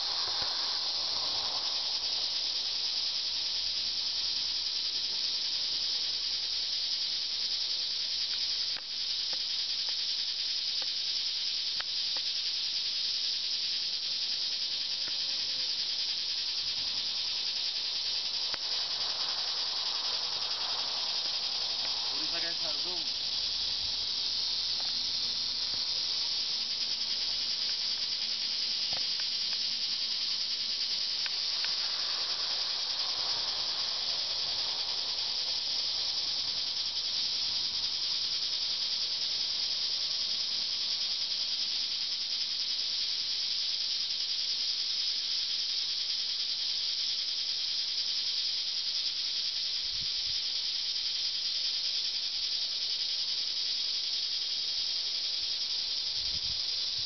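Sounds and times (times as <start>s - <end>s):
steady high-pitched hiss: 0.0s - 57.0s.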